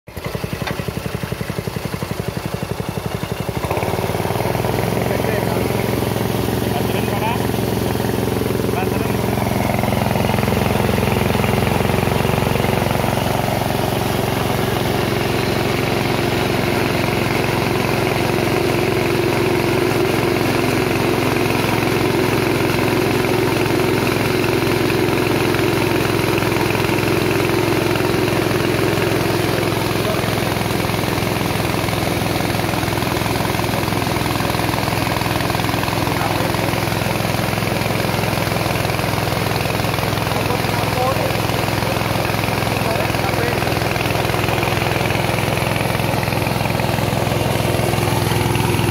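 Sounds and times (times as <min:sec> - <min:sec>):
small petrol engine running: 0:00.1 - 0:48.9.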